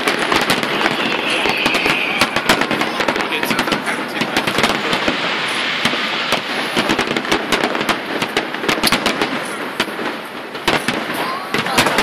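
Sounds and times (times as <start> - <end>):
fireworks bangs and pops: 0.0 - 12.0
fireworks hiss: 0.0 - 12.0.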